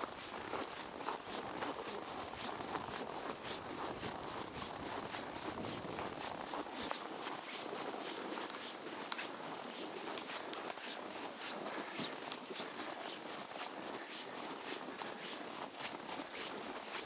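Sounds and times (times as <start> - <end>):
footsteps crunching on snow: 0.0 - 17.0.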